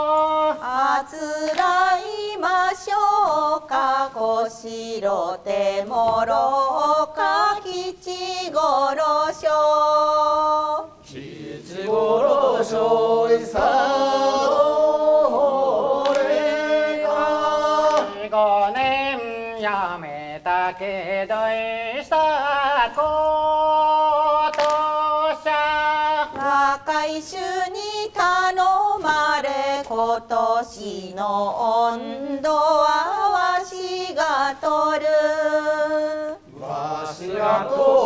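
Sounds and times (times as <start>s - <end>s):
group of voices singing folk song: 0.0s - 38.0s.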